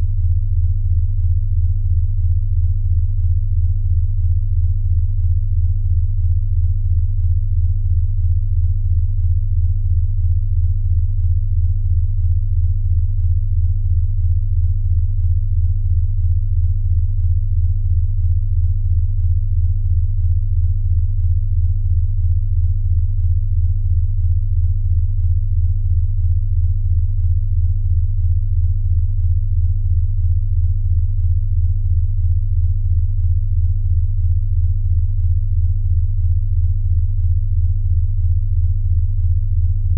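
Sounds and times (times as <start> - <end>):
low pulsing pure tone: 0.0 - 39.9.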